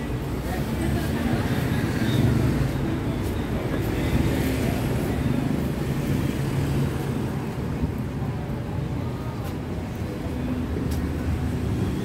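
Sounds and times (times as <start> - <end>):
passing traffic rumble: 0.0 - 12.0.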